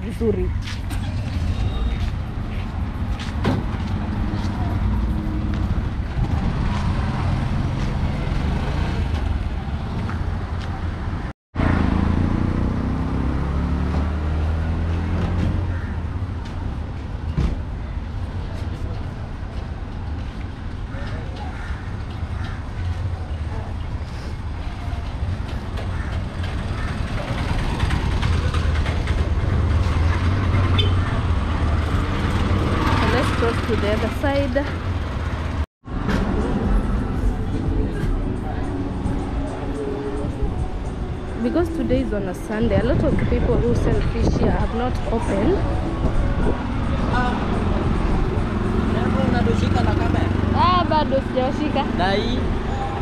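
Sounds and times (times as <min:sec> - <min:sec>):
auto-rickshaw and car engines: 0:00.0 - 0:53.0
street noise: 0:00.0 - 0:53.0.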